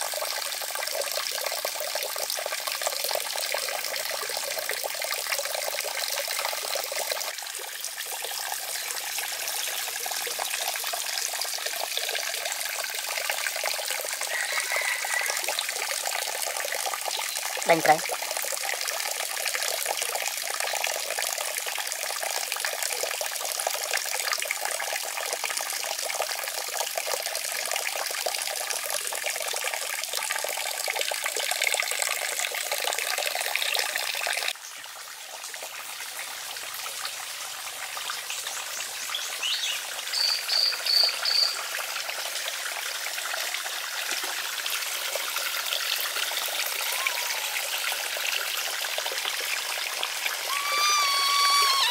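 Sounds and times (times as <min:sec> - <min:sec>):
water trickling into pond: 0:00.0 - 0:51.9.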